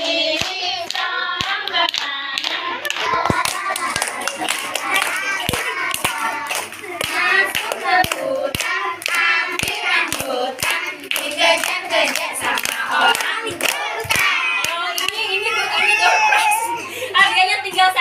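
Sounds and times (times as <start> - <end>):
people clapping in time: 0.0 - 15.3
group singing: 0.0 - 15.8.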